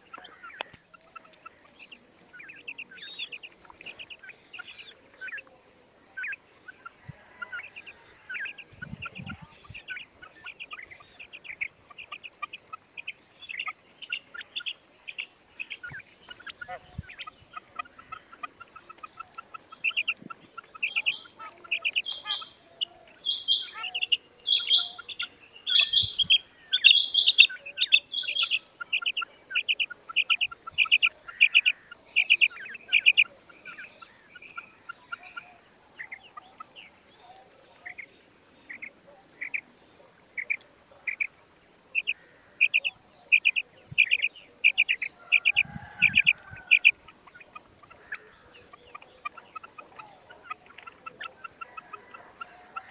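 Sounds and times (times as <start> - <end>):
quail calling: 0.0 - 52.9.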